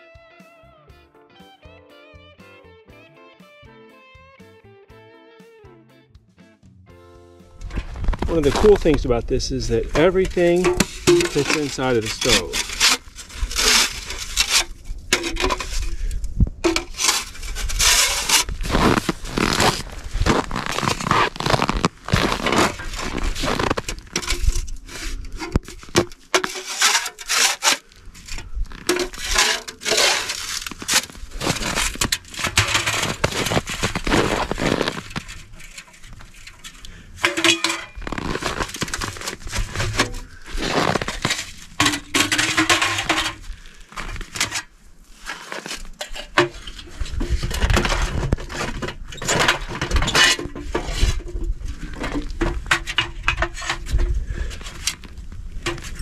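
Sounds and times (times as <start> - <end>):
rustling: 7.6 - 56.0.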